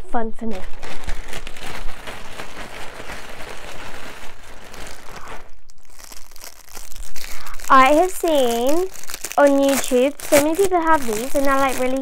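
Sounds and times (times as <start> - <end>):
plastic packaging crinkling: 0.4 - 12.0.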